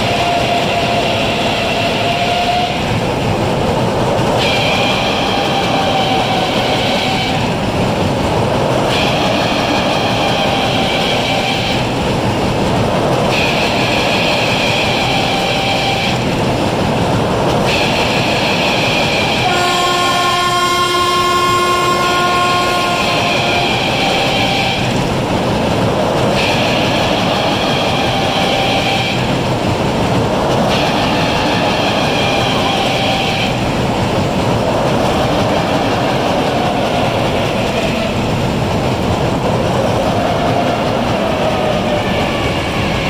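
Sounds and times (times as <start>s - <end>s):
ride cars rumbling on track: 0.0s - 43.0s.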